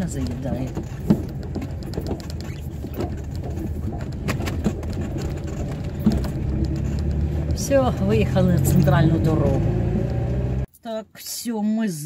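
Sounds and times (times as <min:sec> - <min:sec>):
small clicks and knocks: 0:00.0 - 0:10.3
car engine and tyre noise: 0:00.0 - 0:10.7.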